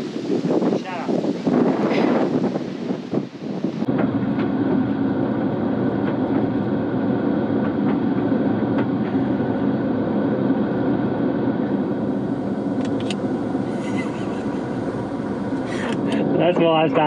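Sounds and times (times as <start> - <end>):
car engine idling: 2.4 - 17.0.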